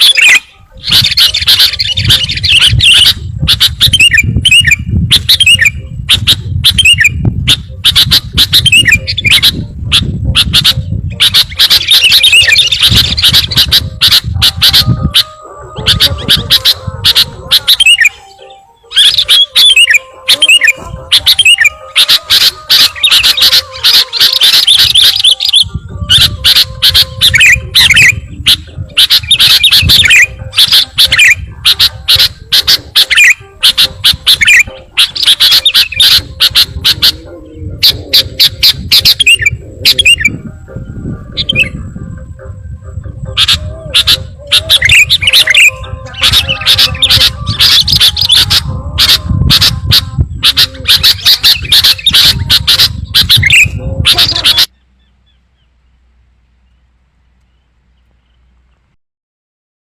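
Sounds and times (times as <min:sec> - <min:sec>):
chattering whistled bird notes: 0:00.0 - 0:55.1.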